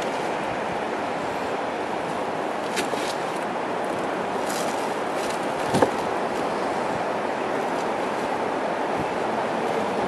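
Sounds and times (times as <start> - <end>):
surf breaking on beach: 0.0 - 10.0.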